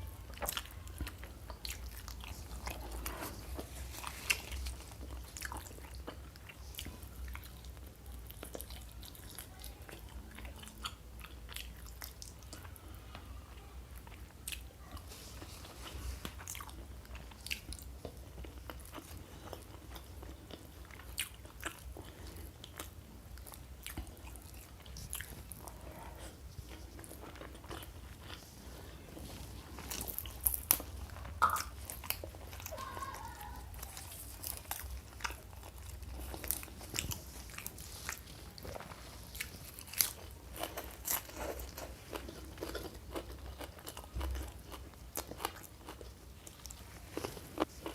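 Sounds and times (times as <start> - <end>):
chewing and biting food: 0.0 - 12.8, 14.0 - 47.9
food crunching: 0.0 - 12.9, 13.5 - 47.9.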